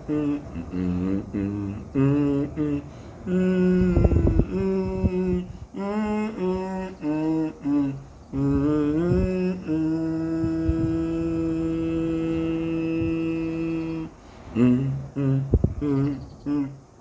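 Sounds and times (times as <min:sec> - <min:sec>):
person humming: 0:00.0 - 0:17.0.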